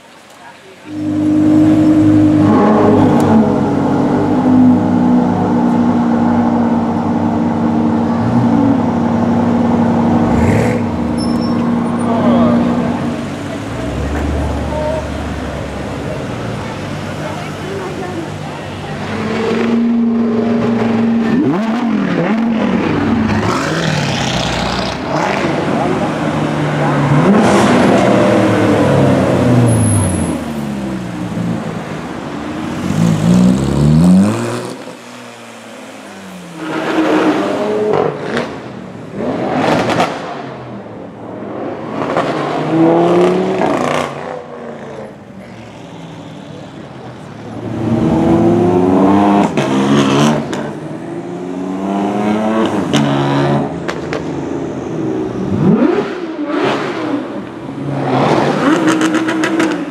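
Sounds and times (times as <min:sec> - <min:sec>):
sports cars revving past: 0:00.9 - 0:59.9.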